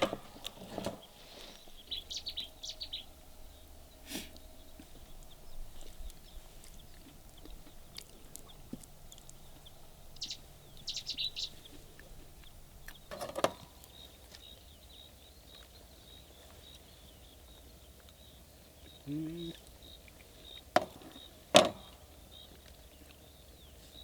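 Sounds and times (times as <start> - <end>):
faint outdoor background: 0.0 - 24.0
small birds chirping: 0.0 - 24.0.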